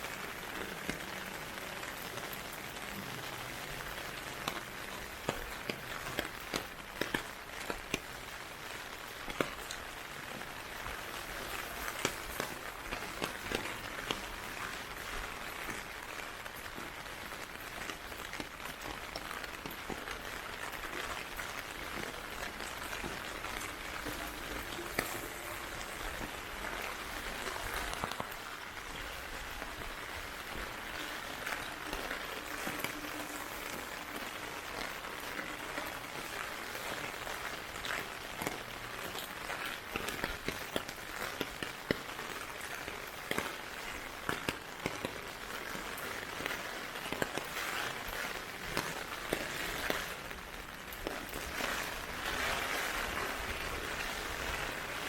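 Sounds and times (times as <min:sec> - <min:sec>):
heavy rain falling: 0:00.0 - 0:55.0
sharp raindrop ticks: 0:00.1 - 0:55.0.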